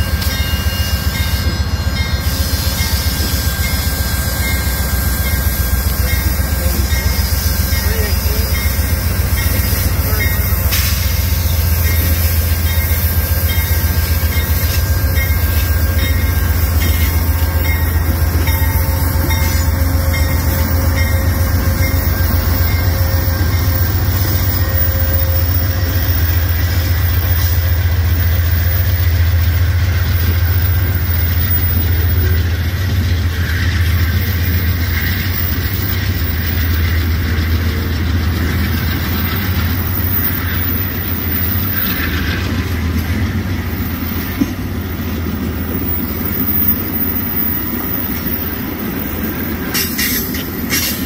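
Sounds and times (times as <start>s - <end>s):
diesel locomotive passing: 0.0s - 51.0s
train cars rumbling on rails: 0.0s - 51.0s.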